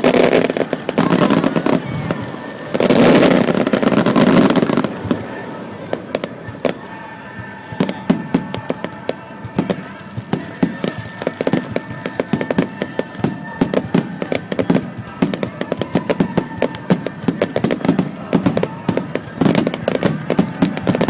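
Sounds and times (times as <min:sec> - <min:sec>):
fireworks cracks and bangs: 0:00.0 - 0:21.0.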